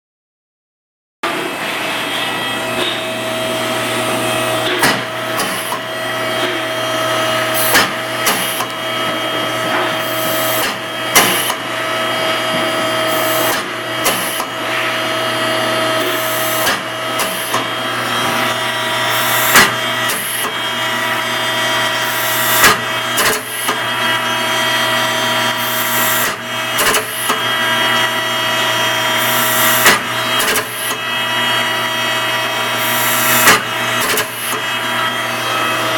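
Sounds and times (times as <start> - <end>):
machine whining: 1.3 - 35.9.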